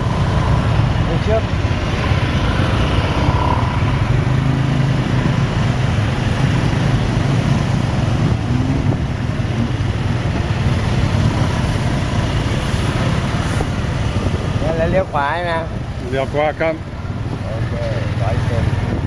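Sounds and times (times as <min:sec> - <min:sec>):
road noise rushing: 0:00.0 - 0:19.0.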